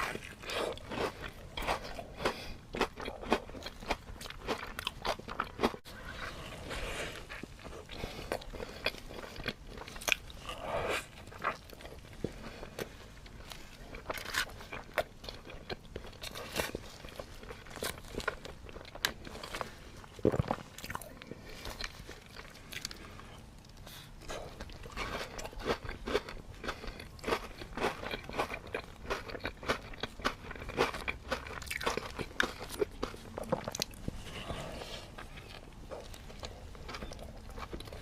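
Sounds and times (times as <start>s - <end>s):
person chewing bread crunchily: 0.0s - 38.0s.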